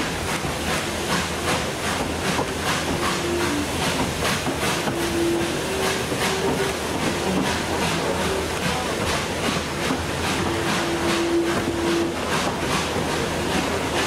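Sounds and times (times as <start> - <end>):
steam hiss and rumble: 0.0 - 14.0
steam locomotive exhaust beats: 0.0 - 14.0.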